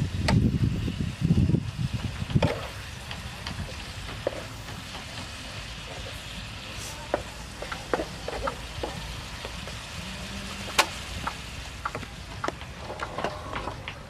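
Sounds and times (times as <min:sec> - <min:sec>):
greens sizzling in a pan: 0:00.0 - 0:11.9.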